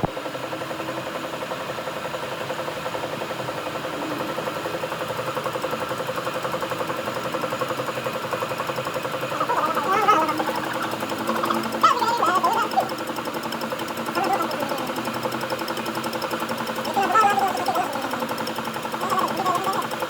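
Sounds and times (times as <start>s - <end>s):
workshop machine motor running: 0.0s - 20.0s.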